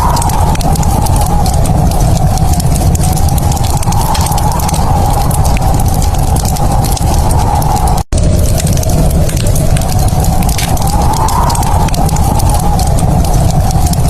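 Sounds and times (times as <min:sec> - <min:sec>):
low rumble: 0:00.0 - 0:14.0
wood fire crackling: 0:00.0 - 0:14.0.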